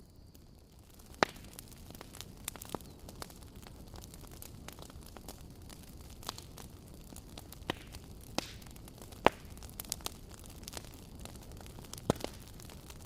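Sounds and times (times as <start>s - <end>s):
low rumble of burning: 0.0s - 13.0s
wood fire crackling: 0.0s - 13.0s.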